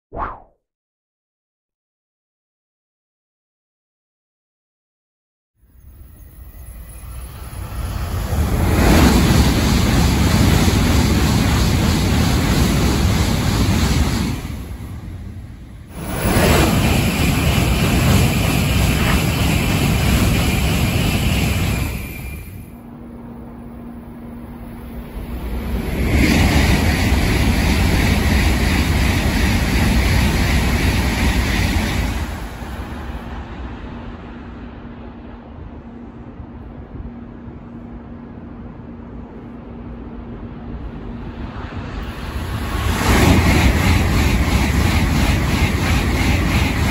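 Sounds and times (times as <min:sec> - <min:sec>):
high-speed train passing: 0:05.6 - 0:46.9.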